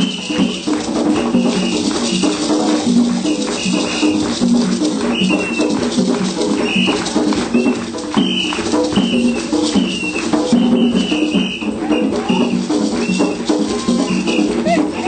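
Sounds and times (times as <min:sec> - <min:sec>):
rhythmic percussion music: 0:00.0 - 0:15.0.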